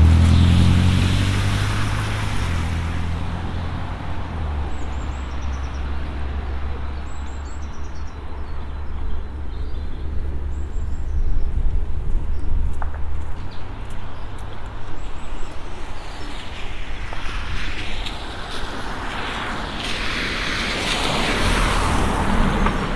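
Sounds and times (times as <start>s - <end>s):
motor vehicle passing: 0.0s - 22.9s
road traffic hum: 0.0s - 22.9s.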